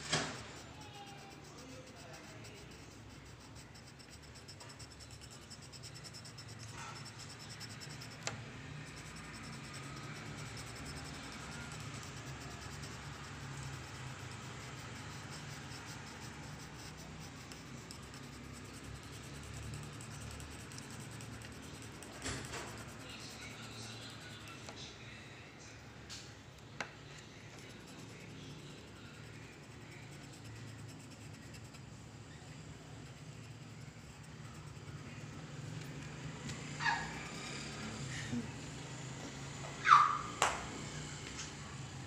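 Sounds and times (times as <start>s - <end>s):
pencil scratching on paper: 0.0s - 24.9s, 27.4s - 38.0s.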